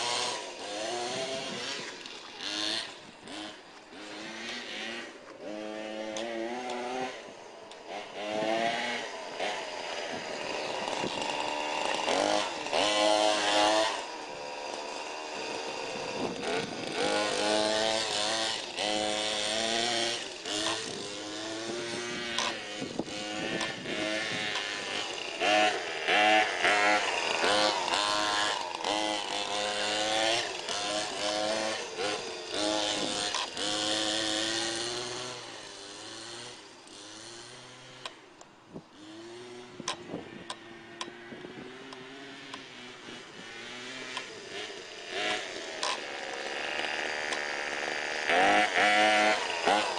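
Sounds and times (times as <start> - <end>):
small two-stroke engine revving: 0.0 - 49.9.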